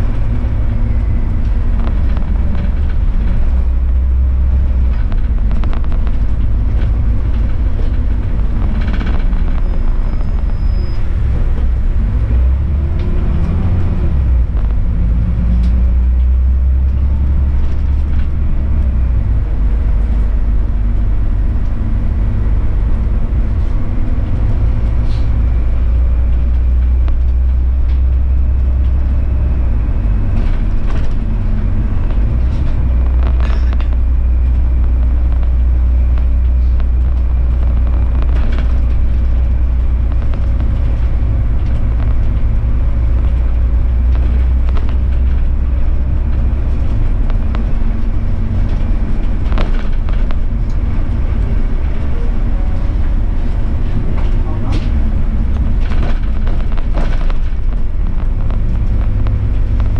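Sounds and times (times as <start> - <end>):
bus engine and tyres rumbling: 0.0 - 59.9.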